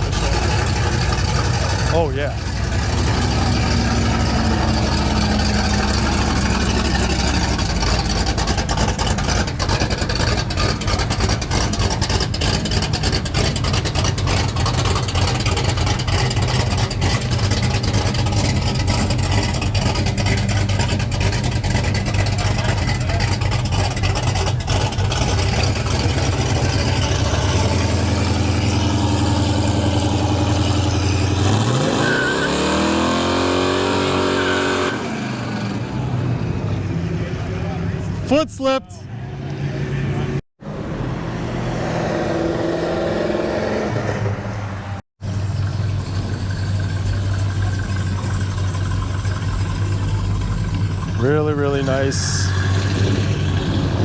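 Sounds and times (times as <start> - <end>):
car engine rumbling and revving: 0.0 - 38.2, 39.0 - 54.0.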